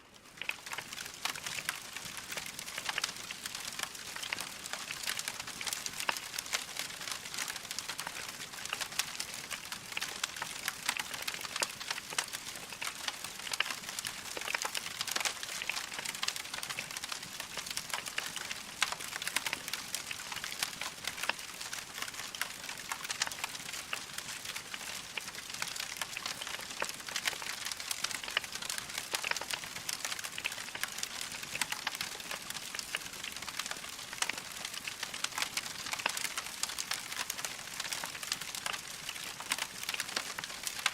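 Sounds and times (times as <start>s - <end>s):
log fire crackling: 0.1s - 40.9s.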